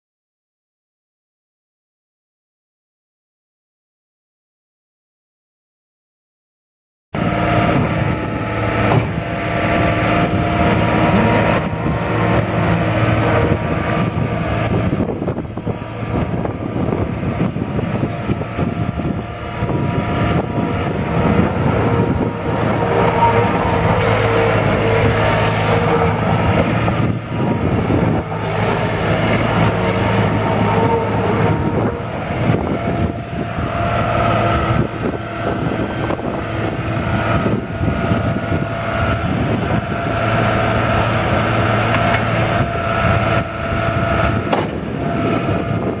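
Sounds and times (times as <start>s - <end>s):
diesel engine running: 7.2s - 46.0s
high machine whine: 7.2s - 46.0s.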